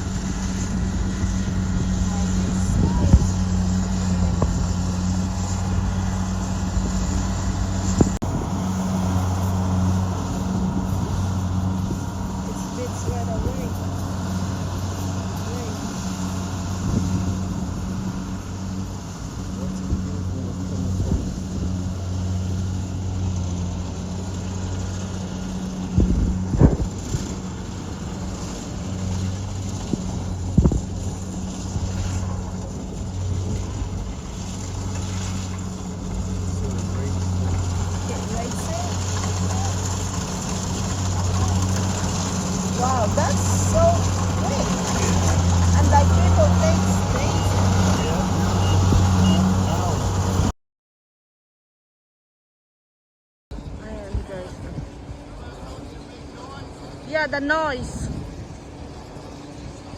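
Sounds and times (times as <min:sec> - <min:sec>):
road and tyre noise: 0:00.0 - 0:50.5, 0:53.5 - 0:59.9
vehicle engine hum: 0:00.0 - 0:50.5, 0:53.5 - 0:59.9.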